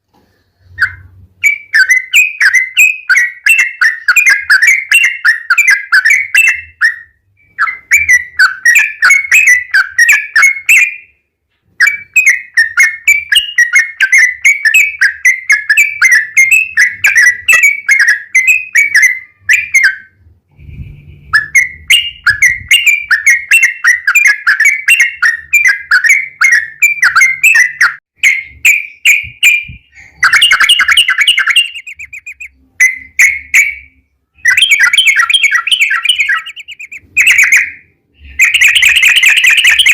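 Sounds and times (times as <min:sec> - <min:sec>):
bird singing rolling song: 0:00.7 - 0:11.1, 0:11.8 - 0:39.9.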